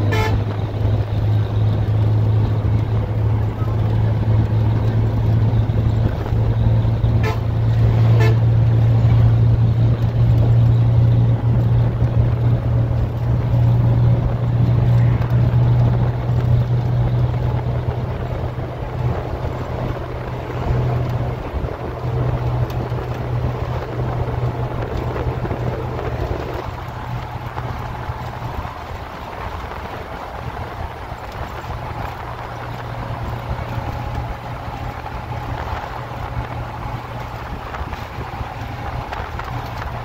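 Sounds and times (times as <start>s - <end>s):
bus engine drone: 0.0s - 40.0s.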